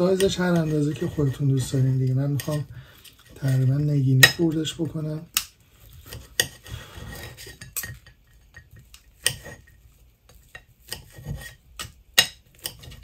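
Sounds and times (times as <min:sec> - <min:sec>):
blade scraping a ceramic plate: 0:00.0 - 0:04.5, 0:05.8 - 0:13.0.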